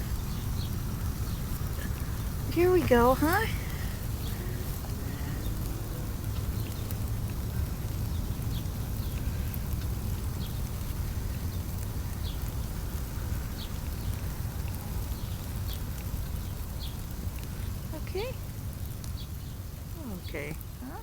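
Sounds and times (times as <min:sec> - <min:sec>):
wind on microphone rumble: 0:00.0 - 0:21.0.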